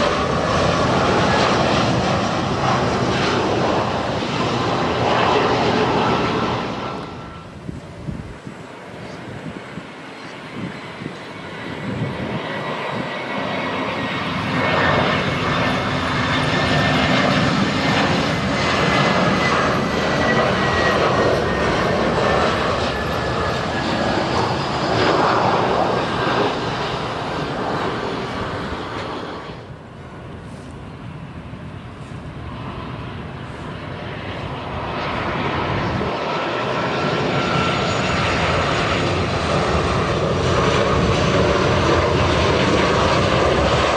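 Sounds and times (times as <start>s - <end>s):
jet engines roaring overhead: 0.0s - 43.9s.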